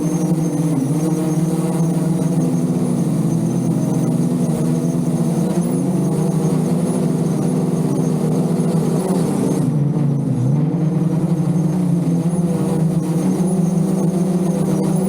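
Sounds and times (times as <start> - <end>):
drone rotors whirring: 0.0 - 15.0.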